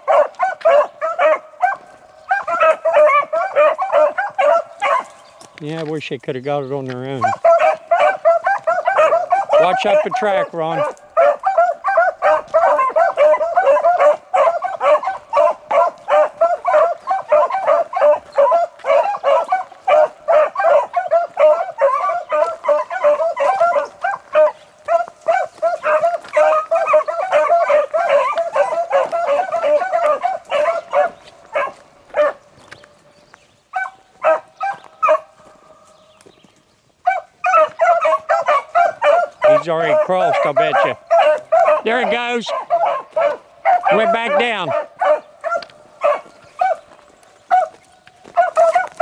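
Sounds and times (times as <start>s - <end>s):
dogs baying: 0.0s - 6.1s, 6.7s - 49.0s.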